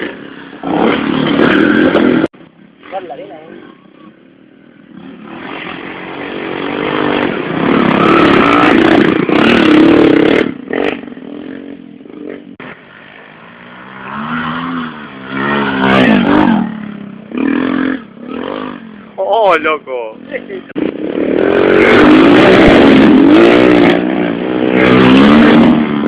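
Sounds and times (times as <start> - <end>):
motorcycles racing past revving: 0.0 - 26.0.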